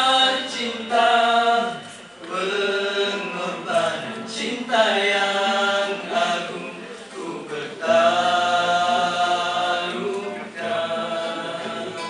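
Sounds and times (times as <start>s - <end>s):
male voices singing together: 0.0s - 12.0s.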